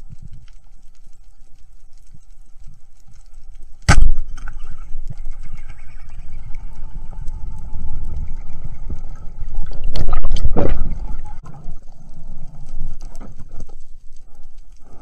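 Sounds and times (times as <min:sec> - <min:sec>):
underwater low rumble: 0:00.0 - 0:15.0.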